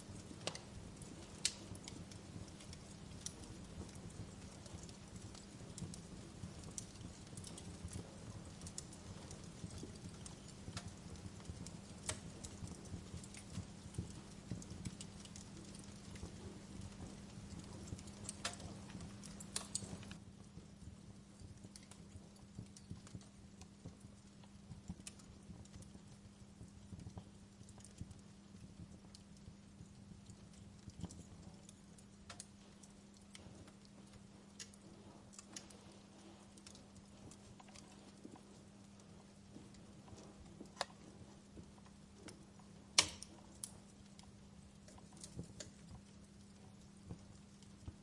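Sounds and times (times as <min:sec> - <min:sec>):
steady low hum: 0:00.0 - 0:48.0
wood fire crackling and popping: 0:00.0 - 0:48.0.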